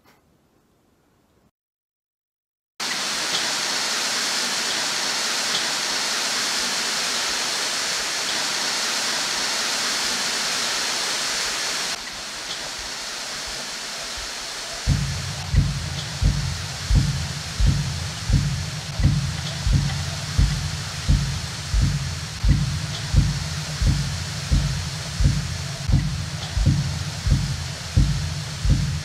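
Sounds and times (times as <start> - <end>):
steady rushing hiss: 2.8 - 29.0.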